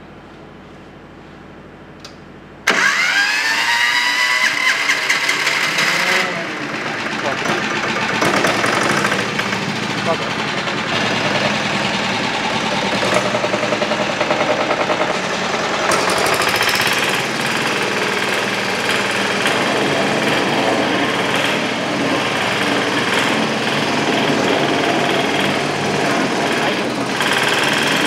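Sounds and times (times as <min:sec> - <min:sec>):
diesel engine fast knocking: 0:05.0 - 0:28.0.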